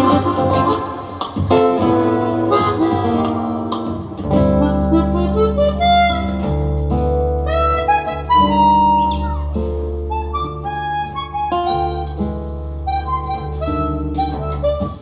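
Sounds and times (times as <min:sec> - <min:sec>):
acoustic guitar: 0:00.0 - 0:15.0
harmonica melody: 0:00.0 - 0:15.0
steady bass line: 0:00.0 - 0:15.0.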